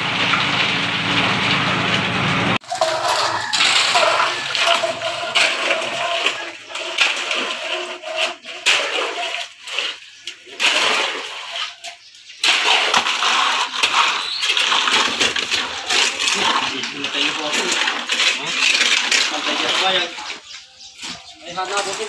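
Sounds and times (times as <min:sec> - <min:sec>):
wet concrete pouring: 0:00.0 - 0:22.0.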